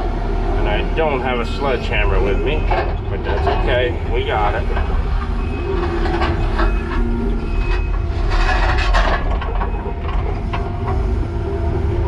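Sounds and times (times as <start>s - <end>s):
diesel engine running: 0.0s - 12.0s
hydraulic hum: 0.0s - 12.0s.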